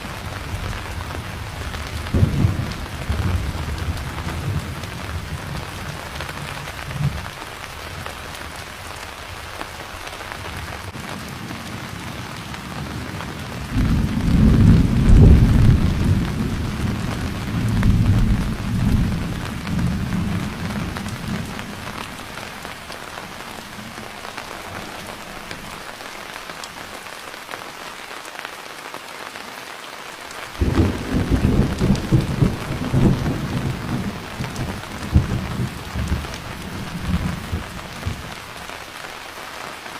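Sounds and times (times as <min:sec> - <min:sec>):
thunder rumbling: 0:00.0 - 0:09.4, 0:10.4 - 0:25.8, 0:30.6 - 0:38.7
steady rain: 0:00.0 - 0:39.9.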